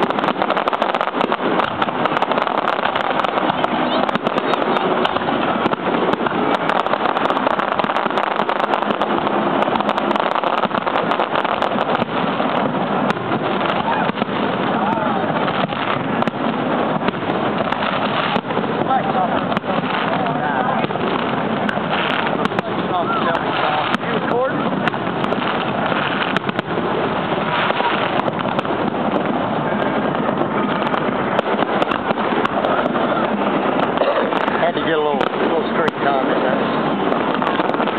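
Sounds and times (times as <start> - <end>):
dense steady din: 0.0 - 37.9
fireworks crackling: 0.0 - 37.9
steady rushing noise: 0.0 - 37.9.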